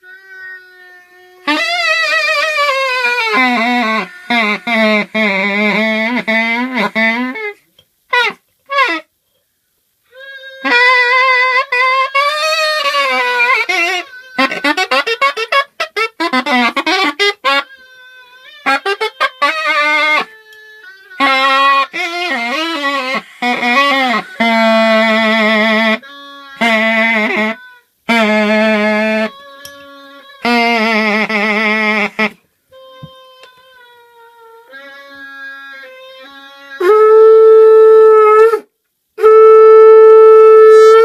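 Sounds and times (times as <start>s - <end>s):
reedy wind instrument: 0.0s - 9.1s, 10.1s - 41.0s.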